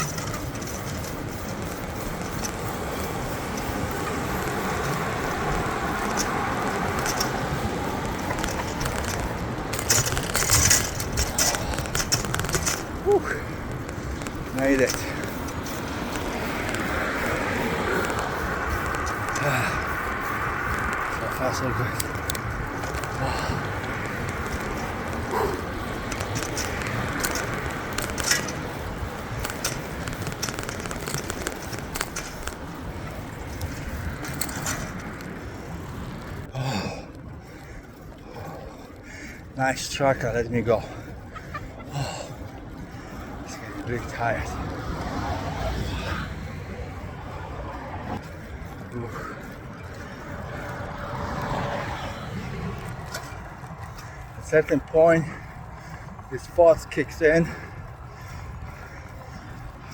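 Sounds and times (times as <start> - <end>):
bicycle clicks and rattles: 0.0 - 59.9
car passing: 0.0 - 59.9
road traffic noise: 0.0 - 59.9.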